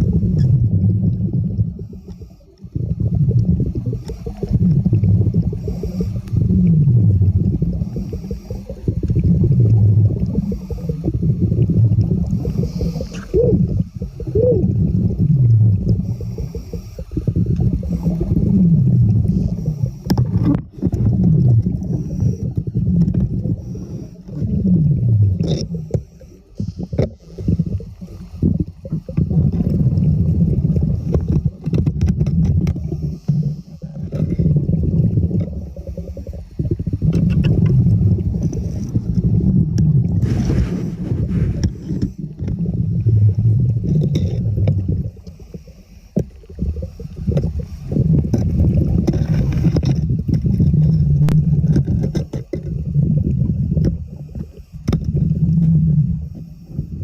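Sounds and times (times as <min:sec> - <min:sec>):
bubbles rushing: 0:00.0 - 0:02.0, 0:02.6 - 0:56.3
scuba diver breathing underwater: 0:00.0 - 0:51.7.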